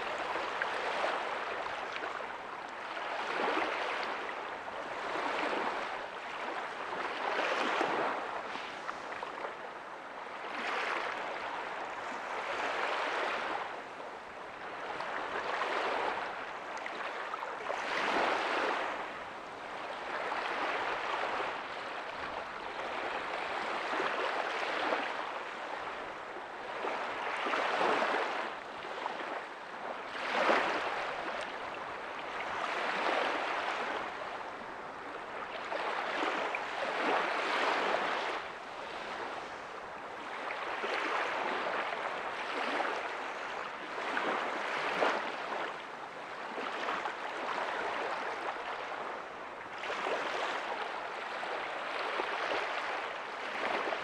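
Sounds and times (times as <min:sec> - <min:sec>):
small waves breaking on a beach: 0:00.0 - 0:54.0.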